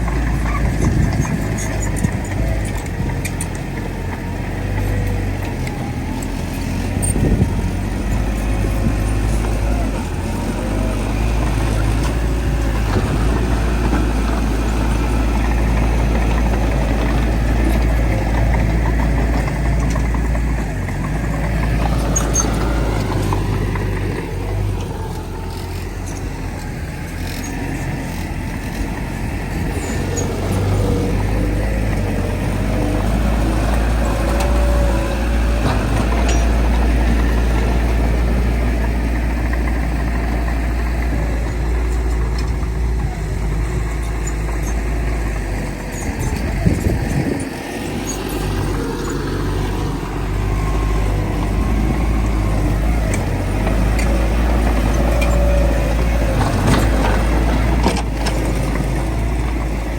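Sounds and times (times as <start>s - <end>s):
heavy diesel engines rumbling: 0.0s - 59.9s.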